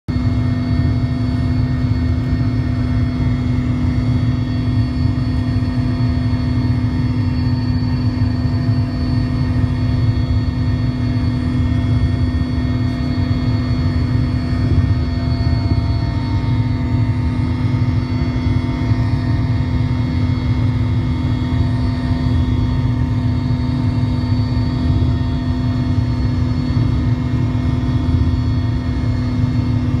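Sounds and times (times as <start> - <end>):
faint whining tones: 0.1 - 30.0
helicopter cabin drone: 0.1 - 30.0.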